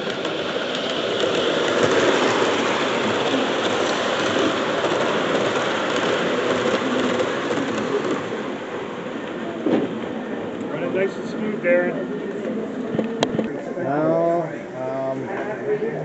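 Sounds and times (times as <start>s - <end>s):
model train rolling rumble: 0.0s - 15.5s.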